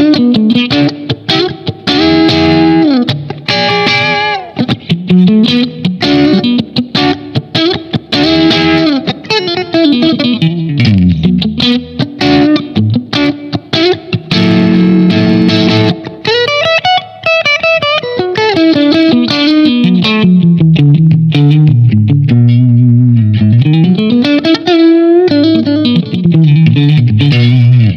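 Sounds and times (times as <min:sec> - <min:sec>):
electric guitar through an amp: 0:00.0 - 0:27.9.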